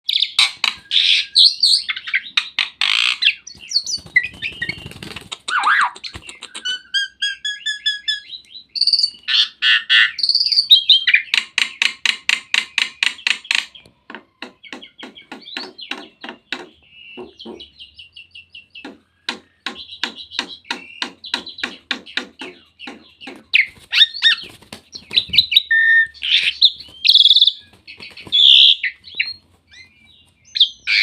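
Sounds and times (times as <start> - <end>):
starling singing: 0.1 - 13.8, 14.4 - 31.0.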